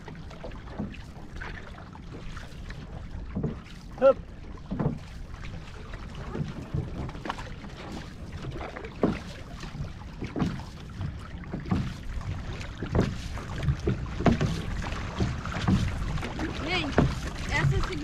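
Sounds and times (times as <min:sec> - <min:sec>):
paddle strokes splashing: 0:00.0 - 0:18.0
rush of water and wind: 0:00.0 - 0:18.0.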